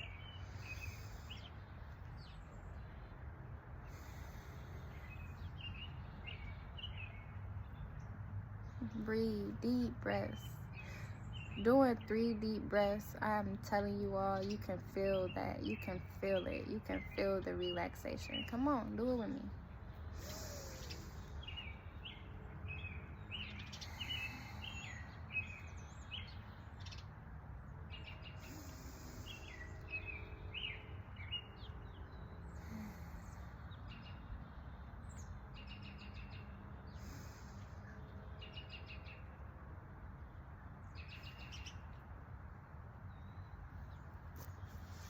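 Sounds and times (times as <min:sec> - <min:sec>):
songbirds chirping and trilling: 0:00.0 - 0:45.0.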